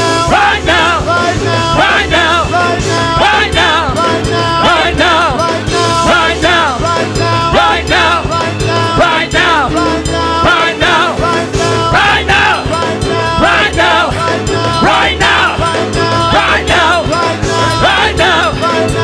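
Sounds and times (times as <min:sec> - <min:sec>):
band with fast drum beat: 0:00.0 - 0:19.0
gospel singing: 0:00.0 - 0:19.0.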